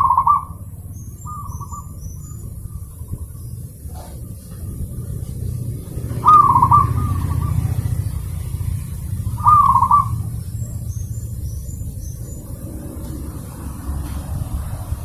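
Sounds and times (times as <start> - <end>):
dove cooing: 0.0 - 14.2.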